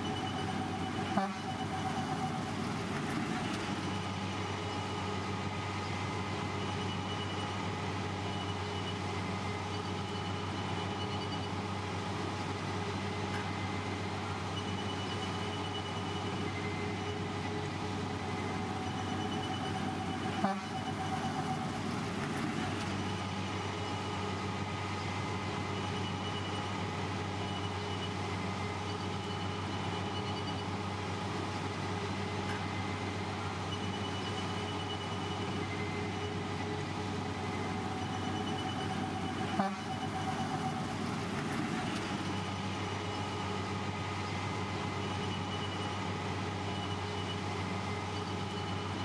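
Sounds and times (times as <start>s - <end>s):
diesel machinery engine drone: 0.0s - 49.0s.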